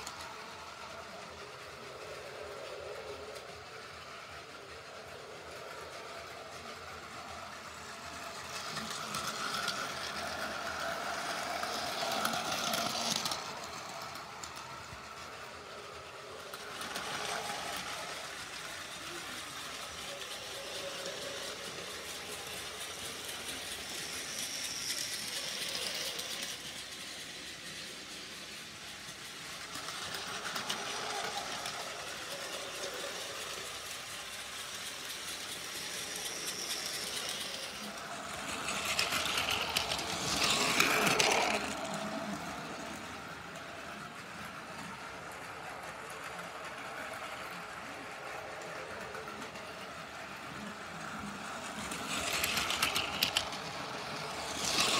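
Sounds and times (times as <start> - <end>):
toy train motor whirring: 0.0 - 54.9
wheels rattling on plastic rails: 0.0 - 54.9.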